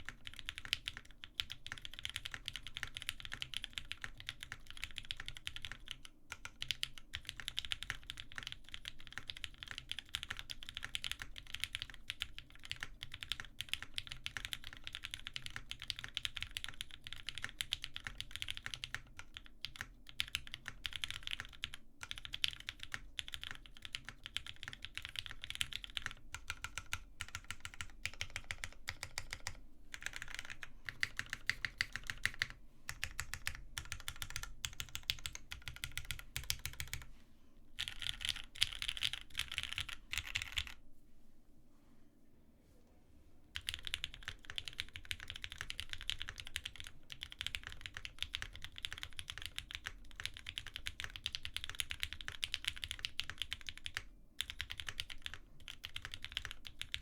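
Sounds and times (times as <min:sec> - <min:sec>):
mechanical keyboard typing: 0:00.0 - 0:37.1, 0:37.8 - 0:40.8, 0:43.6 - 0:57.0.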